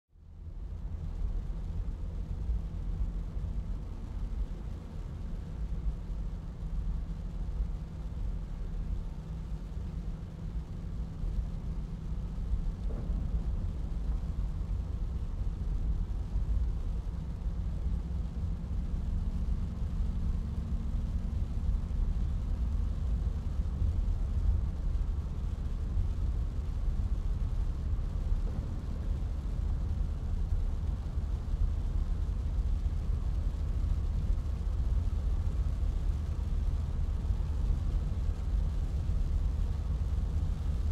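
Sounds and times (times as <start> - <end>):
car road and engine rumble: 0.1 - 40.9.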